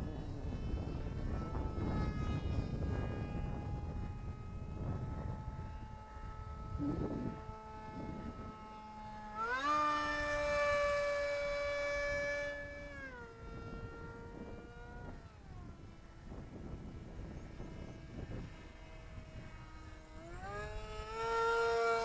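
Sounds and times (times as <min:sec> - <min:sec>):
electric motor and propeller whining: 0:00.0 - 0:22.0.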